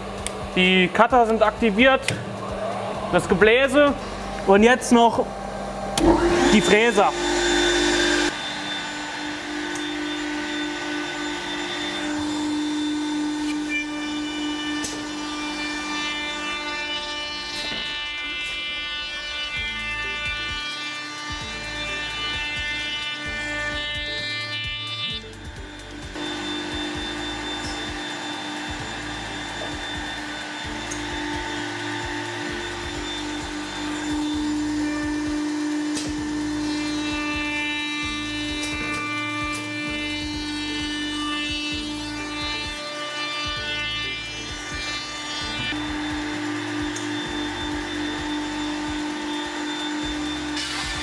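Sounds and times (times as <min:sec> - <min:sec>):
machine motor hum with whine: 0:00.0 - 0:51.0.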